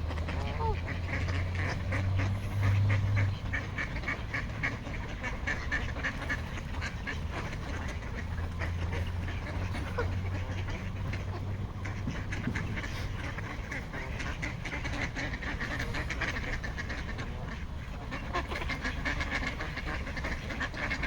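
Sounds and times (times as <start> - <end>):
ducks and geese quacking: 0.0 - 21.0
steady low rumble: 0.0 - 21.0.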